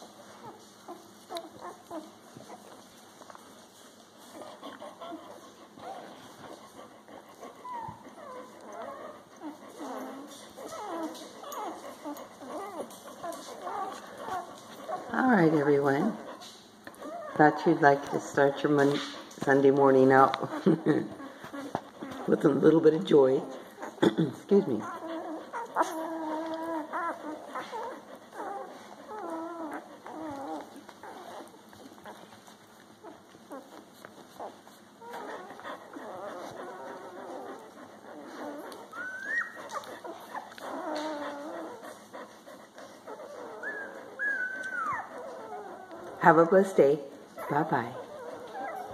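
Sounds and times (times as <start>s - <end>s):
puppies squeaking and whimpering: 0.0s - 48.9s.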